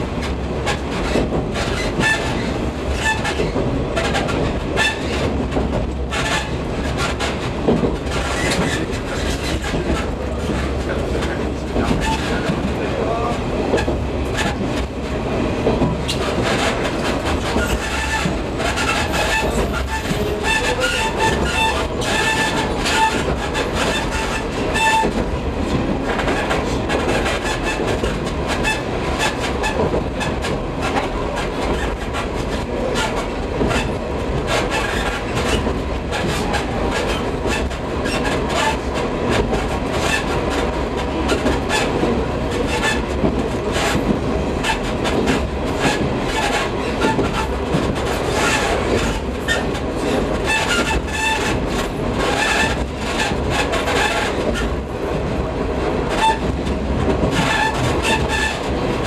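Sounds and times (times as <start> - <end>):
wheels clicking over rail joints: 0.2 - 15.0, 15.6 - 59.0.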